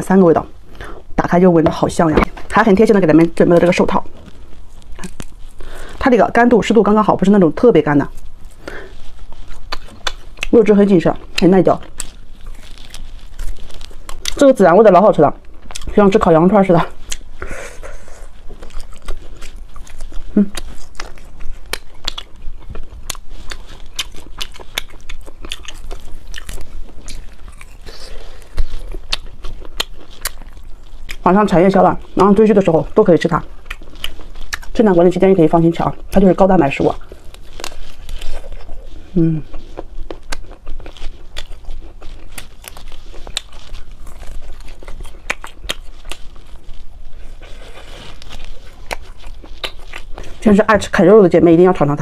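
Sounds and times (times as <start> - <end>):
chewing and crunching bone: 8.1 - 51.3.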